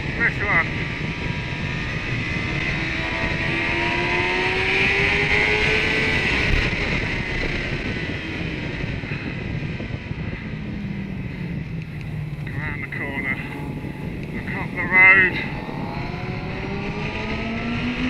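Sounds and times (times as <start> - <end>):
motorcycle engine accelerating: 0.0 - 18.0
wind rush on microphone: 0.0 - 18.0.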